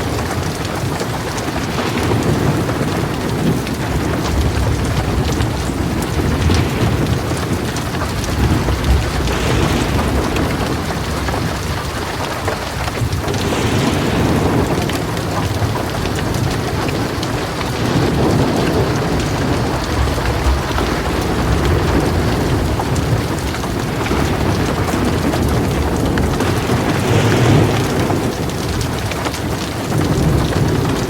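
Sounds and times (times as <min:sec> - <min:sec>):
heavy rain pouring: 0:00.0 - 0:31.0
rolling thunder: 0:00.0 - 0:31.0.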